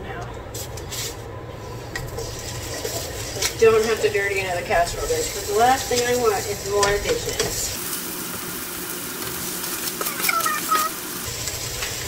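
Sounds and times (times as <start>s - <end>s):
food sizzling in frying pan: 1.7s - 12.0s.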